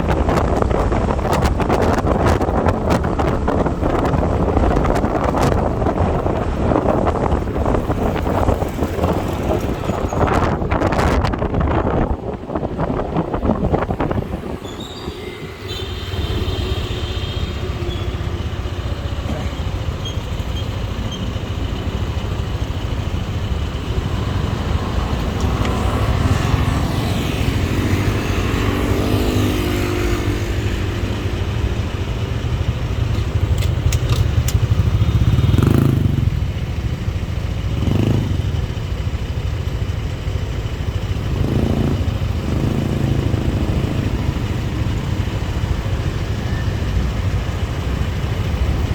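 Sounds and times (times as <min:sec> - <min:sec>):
motorbike engine: 0:00.0 - 0:48.9
wind and road rumble: 0:00.0 - 0:48.9.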